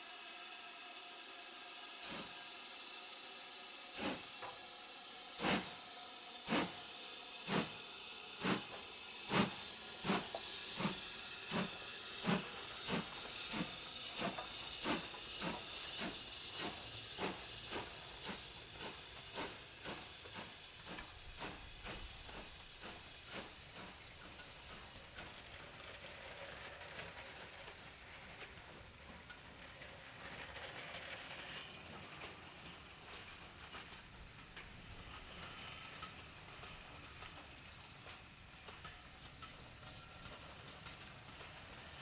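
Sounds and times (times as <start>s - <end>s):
steam hissing: 0.0s - 42.0s
steam locomotive exhaust chuffs: 0.0s - 42.0s.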